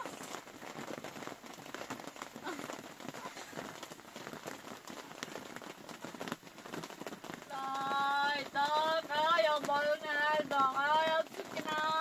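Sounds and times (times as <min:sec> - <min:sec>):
rain on plastic tarp: 0:00.0 - 0:12.0.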